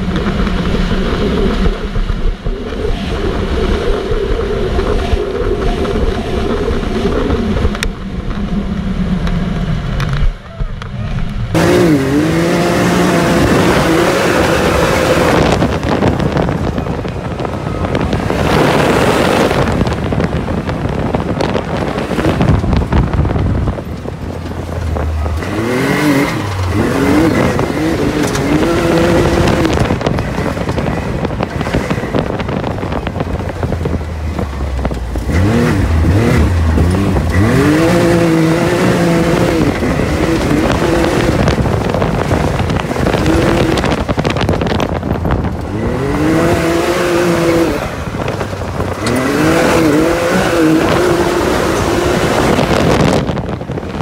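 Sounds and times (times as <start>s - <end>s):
off-road vehicle engine revving: 0.0s - 54.0s
wind rush on microphone: 0.0s - 54.0s.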